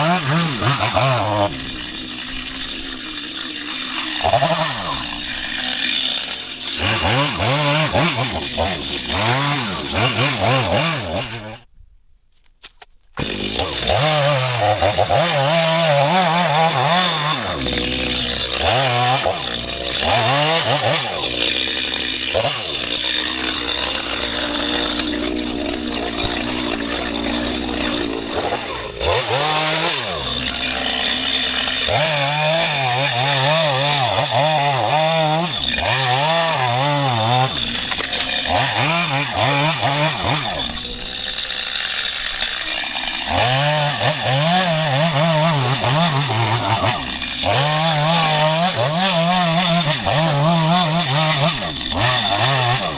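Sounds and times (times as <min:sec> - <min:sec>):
chainsaw sawing wood: 0:00.0 - 0:11.7, 0:13.2 - 0:52.9.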